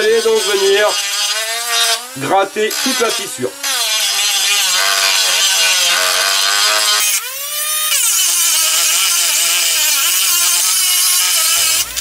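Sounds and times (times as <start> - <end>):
rotary tool grinding plastic: 0.0 - 12.0.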